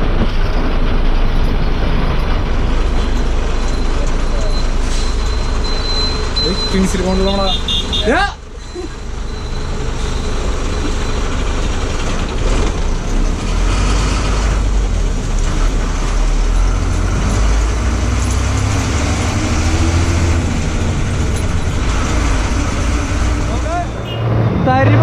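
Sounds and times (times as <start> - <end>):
diesel bus engine rumbling: 0.0 - 25.0
road noise: 0.0 - 25.0.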